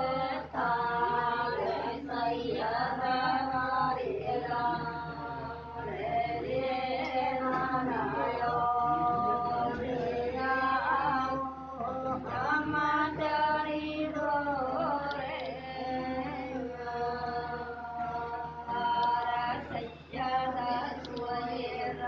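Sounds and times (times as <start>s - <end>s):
person chanting: 0.0s - 22.0s.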